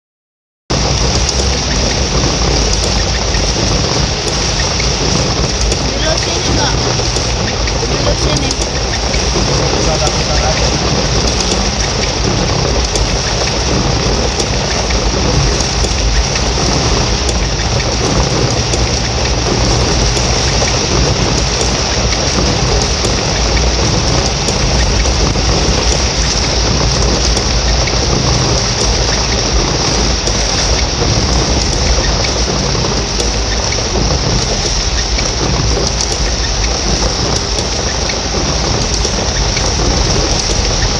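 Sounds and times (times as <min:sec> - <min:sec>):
heavy rain pouring: 0:00.7 - 0:40.9
low rumble: 0:00.7 - 0:40.9.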